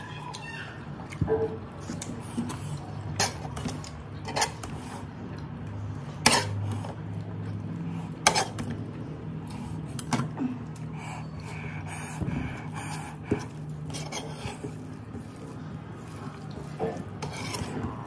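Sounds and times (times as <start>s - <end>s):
steady low hum: 0.8s - 18.0s.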